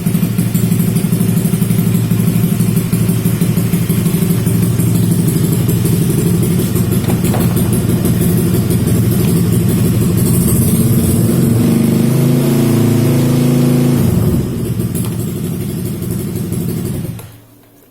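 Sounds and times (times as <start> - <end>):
scooter engine idling and revving: 0.0 - 17.4.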